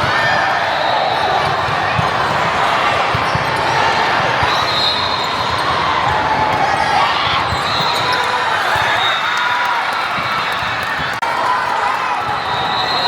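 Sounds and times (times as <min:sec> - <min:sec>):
crowd talking: 0:00.0 - 0:13.0.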